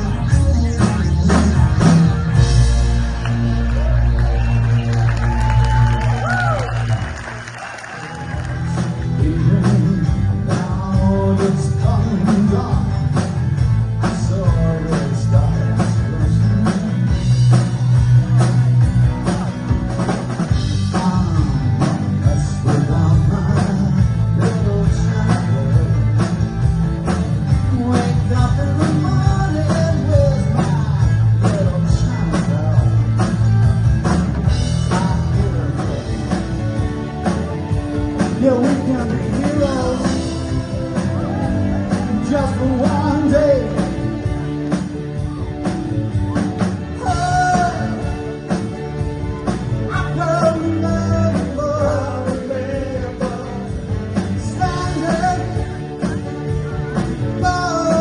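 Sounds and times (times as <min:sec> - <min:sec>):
man singing lead: 0:00.0 - 0:02.5, 0:08.0 - 0:17.6, 0:20.5 - 0:44.5, 0:46.8 - 0:48.6, 0:49.4 - 0:58.0
live rock band playing: 0:00.0 - 0:58.0.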